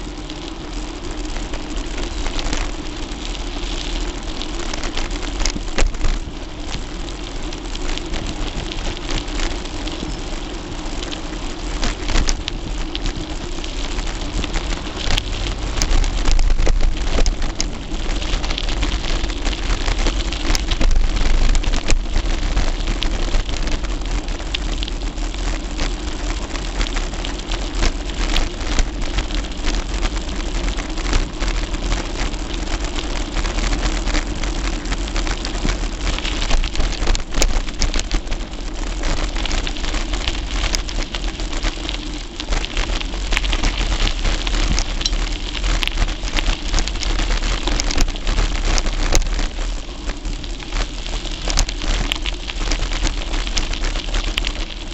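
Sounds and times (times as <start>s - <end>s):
bike tyres rumbling on road: 0.0s - 54.9s
small clicks and rattles: 0.2s - 54.9s.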